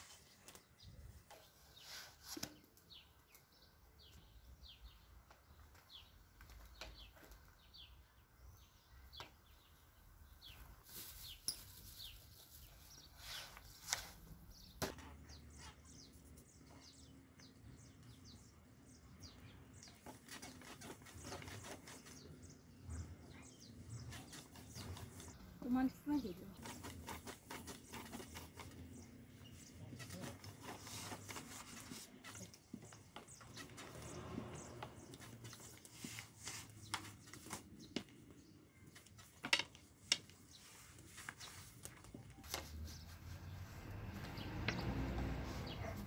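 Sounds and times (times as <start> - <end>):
faint bird chirping: 0.0 - 46.0.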